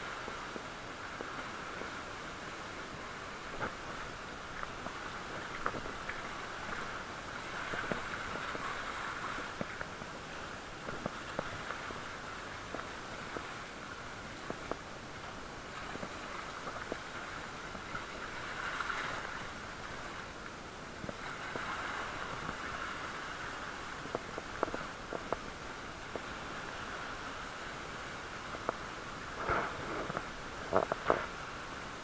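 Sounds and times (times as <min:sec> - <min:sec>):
sea water washing among rocks: 0:00.0 - 0:32.0.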